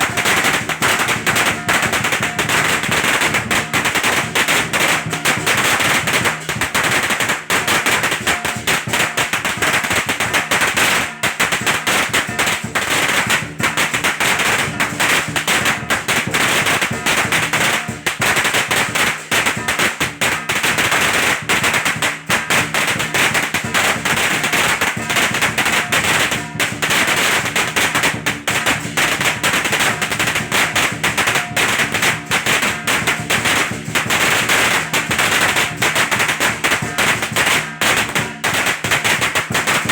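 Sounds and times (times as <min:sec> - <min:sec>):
firecrackers crackling: 0:00.0 - 0:39.9
music: 0:00.1 - 0:39.9.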